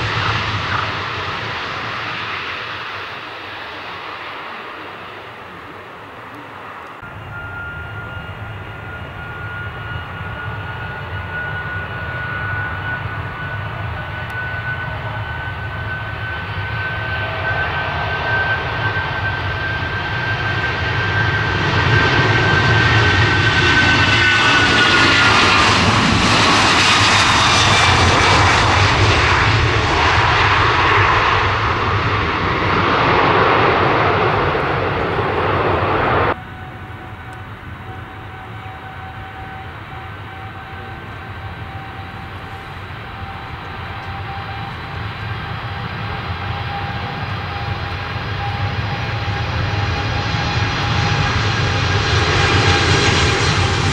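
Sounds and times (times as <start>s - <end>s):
jet airliner taking off: 0.0s - 53.9s.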